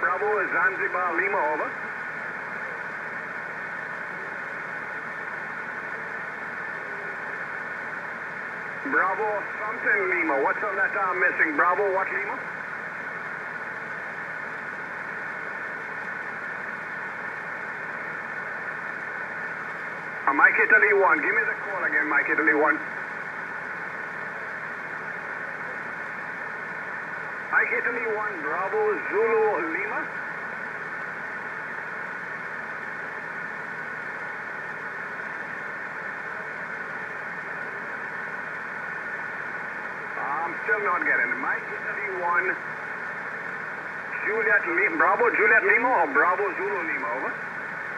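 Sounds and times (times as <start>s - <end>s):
radio band noise hiss: 0.0s - 47.9s.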